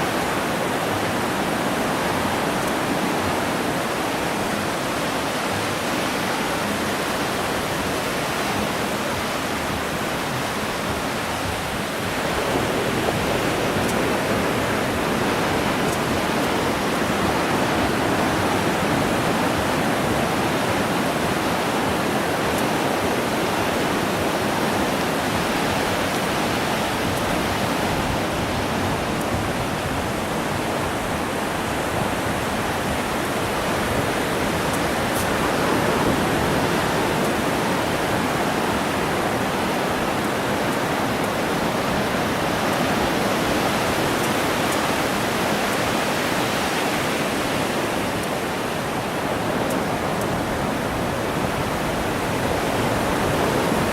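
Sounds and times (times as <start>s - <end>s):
ocean surf breaking on beach: 0.0s - 53.9s.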